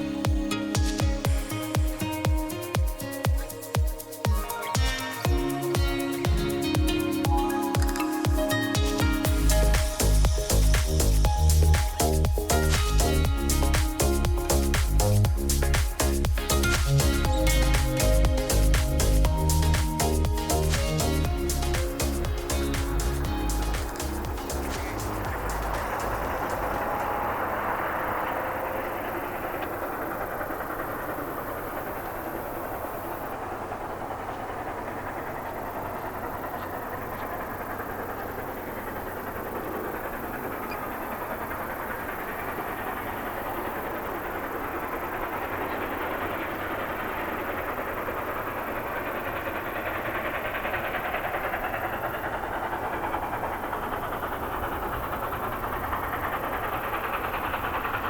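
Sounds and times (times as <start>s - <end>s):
train rolling past: 0.0s - 58.0s.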